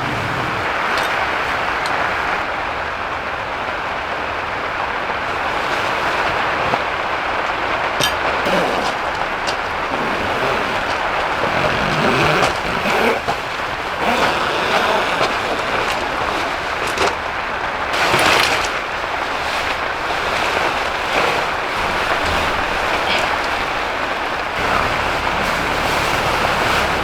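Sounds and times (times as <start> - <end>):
vehicle road noise hiss: 0.0 - 27.0.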